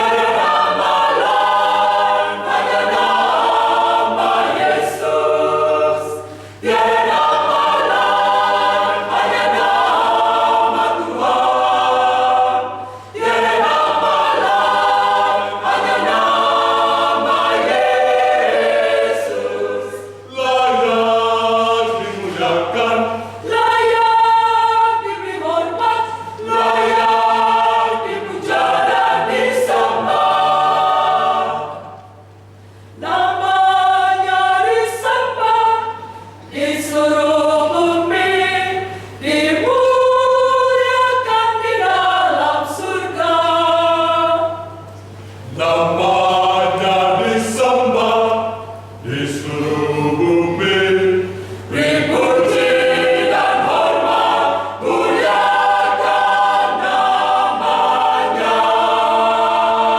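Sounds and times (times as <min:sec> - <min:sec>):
church choir singing gospel: 0:00.0 - 0:59.9.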